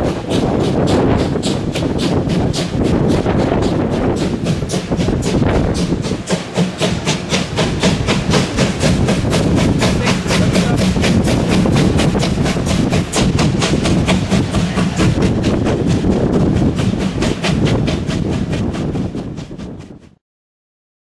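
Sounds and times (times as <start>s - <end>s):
steam locomotive chuffing: 0.0s - 20.2s
train rolling rumble: 0.0s - 20.2s.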